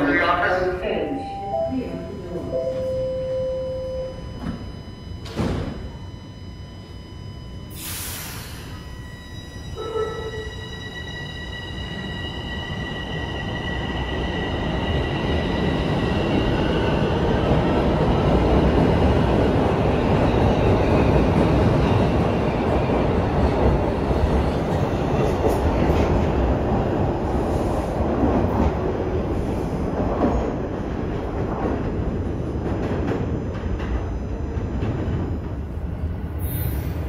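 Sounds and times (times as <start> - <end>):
subway train rumble: 0.0 - 37.0
train high whine: 0.0 - 37.0.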